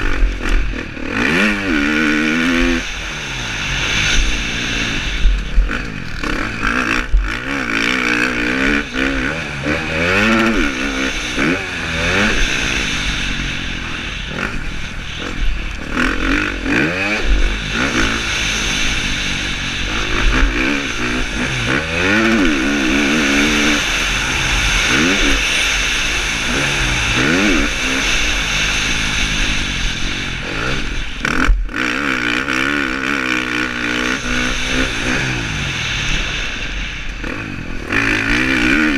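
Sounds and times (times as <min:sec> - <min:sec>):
motocross engine revving: 0:00.0 - 0:38.9
wind hiss: 0:00.0 - 0:38.9.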